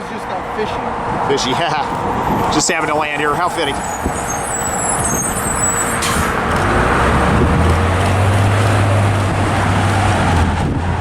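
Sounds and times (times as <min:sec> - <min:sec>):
broad rushing noise: 0:00.8 - 0:11.0
jet engines rumbling: 0:01.0 - 0:11.0.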